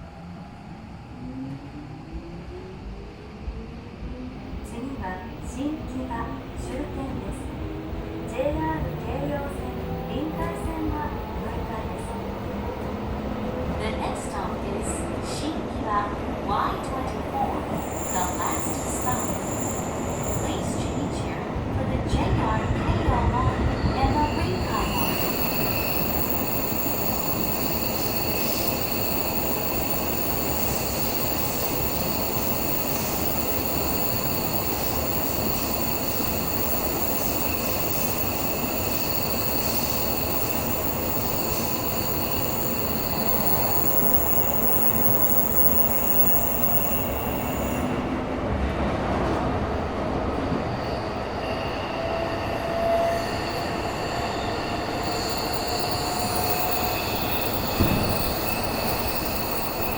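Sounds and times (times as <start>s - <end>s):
train wheel-on-rail noise: 0.0s - 59.9s.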